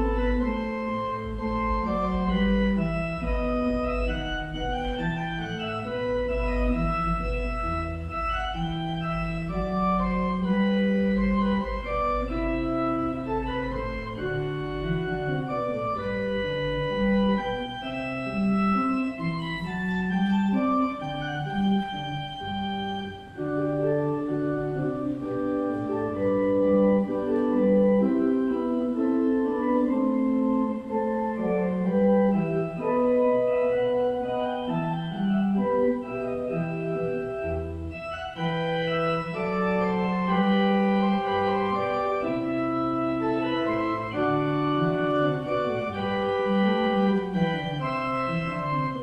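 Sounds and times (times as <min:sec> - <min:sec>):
organ music: 0:00.0 - 0:49.0.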